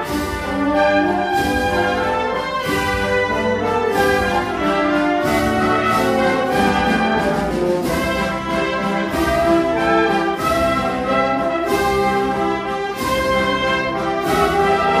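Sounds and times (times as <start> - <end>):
percussion strokes: 0.0 - 15.0
wind band playing a slow march: 0.0 - 15.0.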